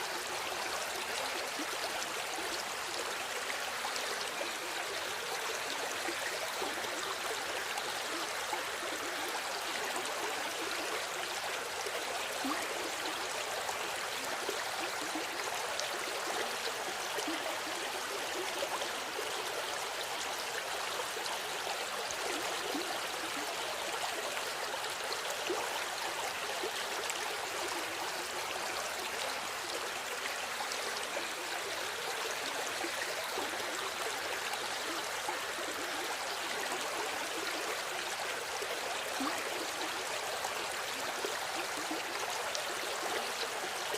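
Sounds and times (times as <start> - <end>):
river water babbling over stones: 0.0 - 43.9.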